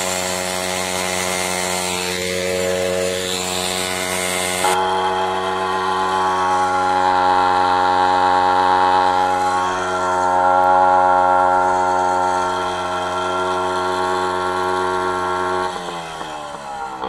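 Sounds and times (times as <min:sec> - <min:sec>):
two-stroke engine revving high: 0:00.0 - 0:17.0.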